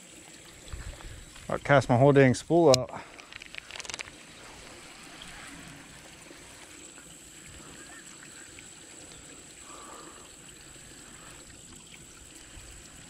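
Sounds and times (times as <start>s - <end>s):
water trickling in a channel: 0.0s - 13.0s.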